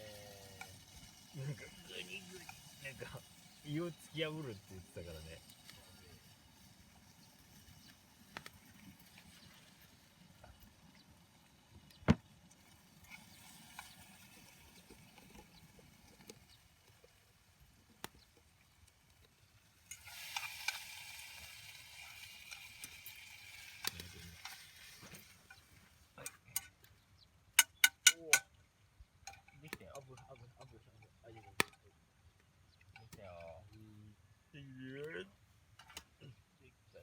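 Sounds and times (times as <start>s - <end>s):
food sizzling over campfire: 0.0s - 37.0s.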